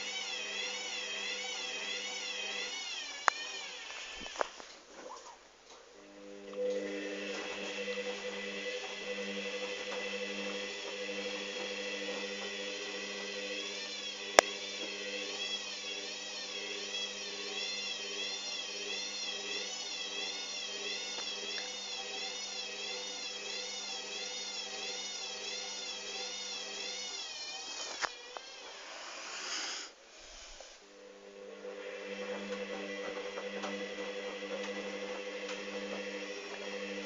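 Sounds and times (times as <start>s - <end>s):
washing machine motor spinning: 0.0s - 37.0s.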